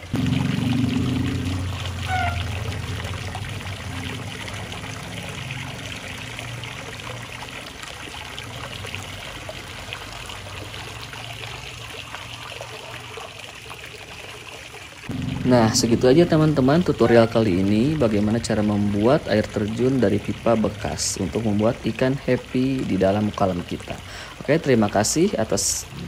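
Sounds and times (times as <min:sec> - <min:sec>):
water trickling and splashing into pond: 0:00.0 - 0:26.0.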